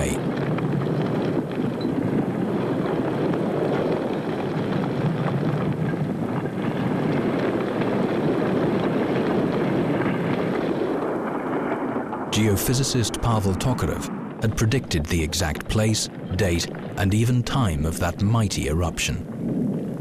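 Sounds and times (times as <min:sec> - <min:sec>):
faint crackles: 0:00.0 - 0:20.0
lava rushing roar: 0:00.0 - 0:20.0.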